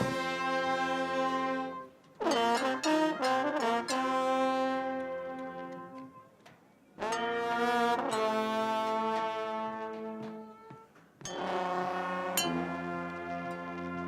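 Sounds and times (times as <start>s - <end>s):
brass band horns playing chords: 0.0s - 6.2s, 7.0s - 10.6s, 11.3s - 14.0s.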